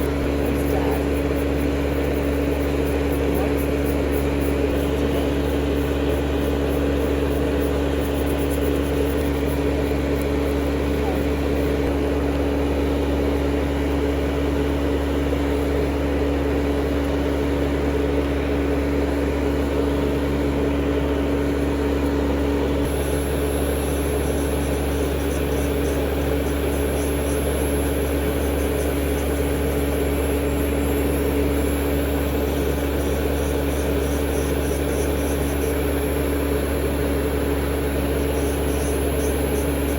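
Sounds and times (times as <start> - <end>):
electric nail file motor humming: 0.0 - 39.9.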